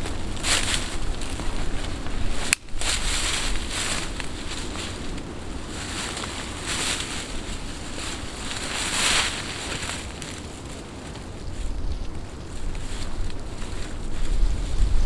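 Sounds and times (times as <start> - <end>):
rustling of poncho and leaves: 0.0 - 15.0
wind on microphone: 0.0 - 15.0.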